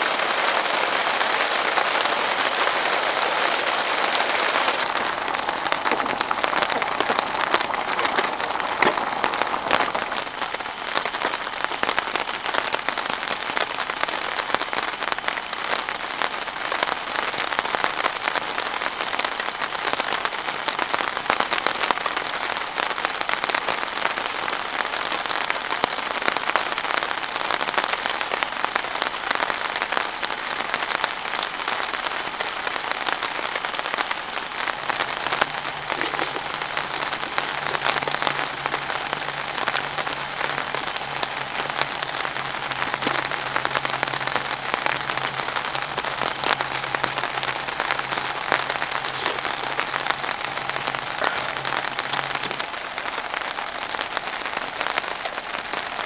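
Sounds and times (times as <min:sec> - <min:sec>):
rain pattering on tent: 0:00.0 - 0:56.0.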